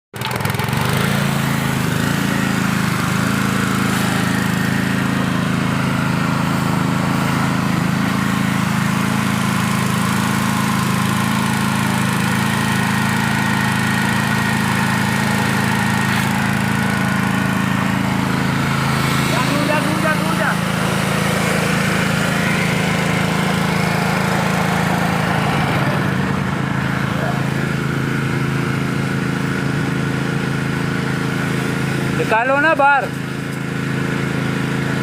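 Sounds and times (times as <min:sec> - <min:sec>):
pressure washer running: 0:00.2 - 0:35.0.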